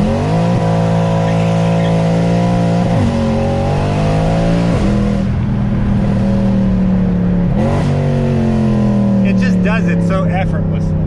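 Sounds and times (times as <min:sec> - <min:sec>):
sports car engine and exhaust: 0:00.0 - 0:11.0.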